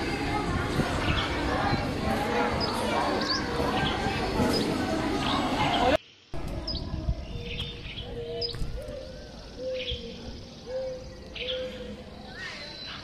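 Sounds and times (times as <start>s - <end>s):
birds calling: 0.9s - 13.0s.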